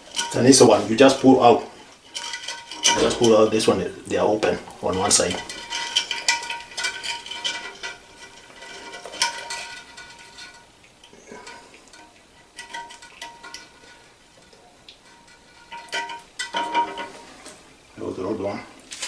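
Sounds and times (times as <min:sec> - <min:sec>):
plastic parts clicking and clinking: 0:02.0 - 0:17.6.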